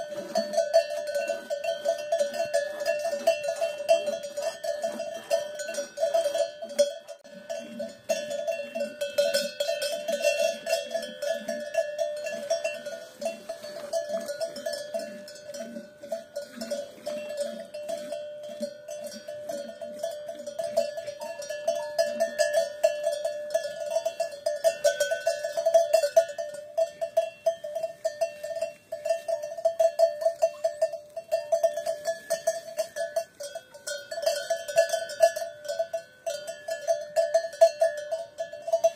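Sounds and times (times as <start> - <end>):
cowbells clanking: 0.0 - 38.9.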